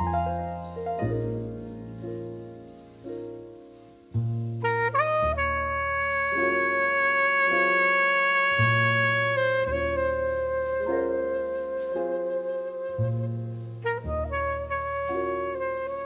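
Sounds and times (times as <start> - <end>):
jazz-like background music: 0.0 - 16.0.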